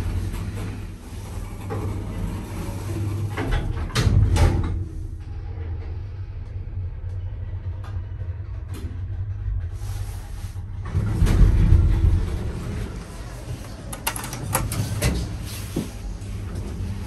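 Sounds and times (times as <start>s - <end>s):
lift low rumble: 0.0s - 17.0s.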